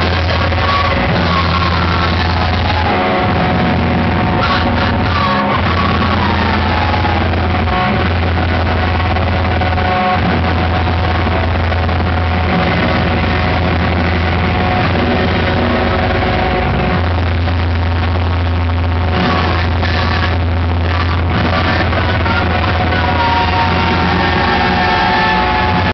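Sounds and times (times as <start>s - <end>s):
distorted noise-rock band playing: 0.0s - 25.9s
steady low drone: 0.0s - 25.9s.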